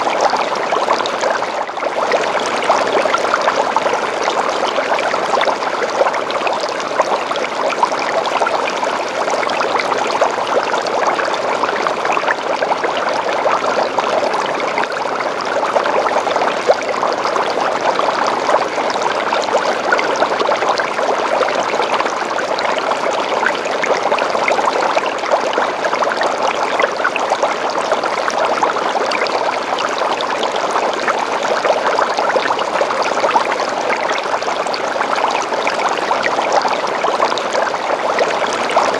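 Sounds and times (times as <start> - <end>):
aquarium water bubbling: 0.0 - 38.9.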